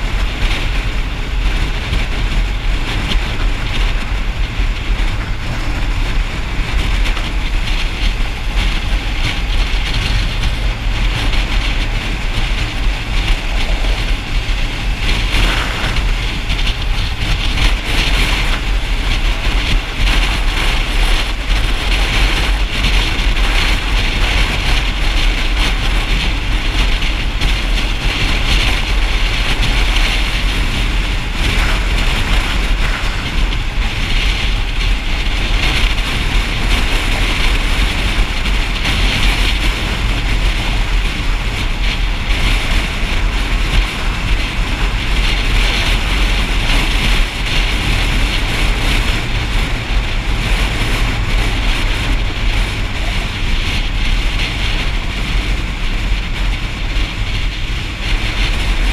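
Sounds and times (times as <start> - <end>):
motorcycle engine rumble: 0.0 - 58.9
wind and road noise: 0.0 - 58.9.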